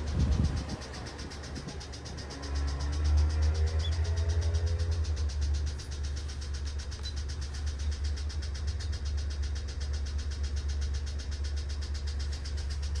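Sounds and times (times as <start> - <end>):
car engine idling: 0.0 - 13.0
fast even engine ticking: 0.0 - 13.0.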